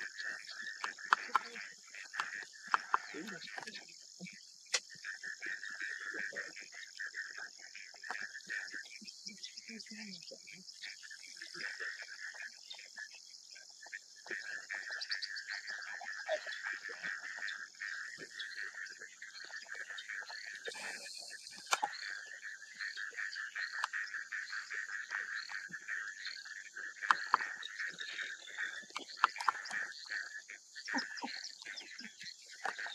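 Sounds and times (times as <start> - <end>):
frogs and insects trilling: 0.0 - 32.9.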